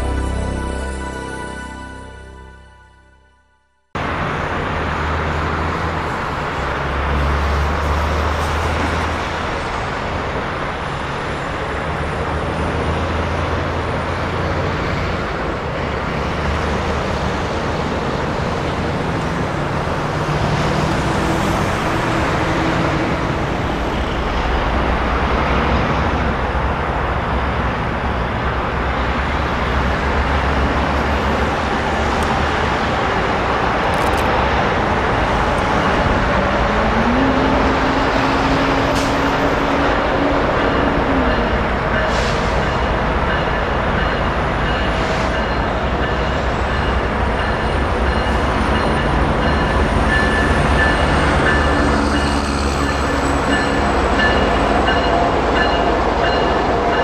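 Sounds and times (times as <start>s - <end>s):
road traffic rumble: 4.0s - 57.0s.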